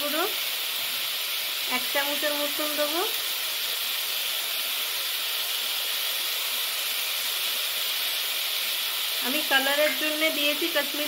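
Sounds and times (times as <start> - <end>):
onions frying in hot oil: 0.0 - 11.0.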